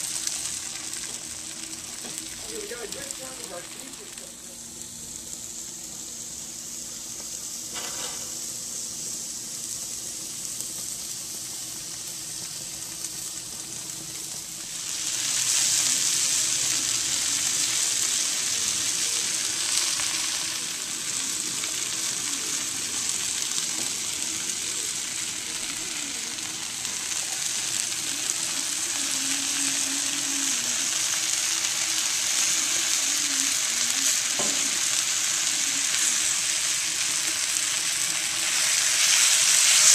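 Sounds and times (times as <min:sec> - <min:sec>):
vegetables sizzling in a skillet: 0:00.0 - 0:39.9.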